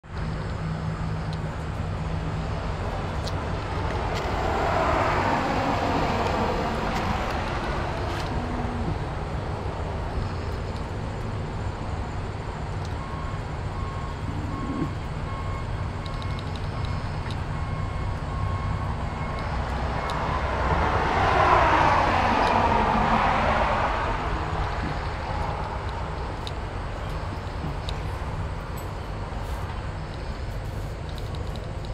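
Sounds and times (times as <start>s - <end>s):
road vehicles passing by: 0.0s - 31.9s
steady low rumble: 0.0s - 31.9s.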